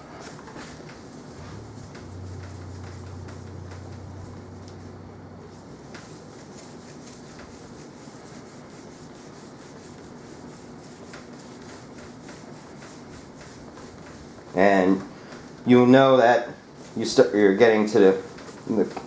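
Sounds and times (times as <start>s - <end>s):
paper towel wiping plastic: 0.0s - 15.8s, 16.7s - 19.0s.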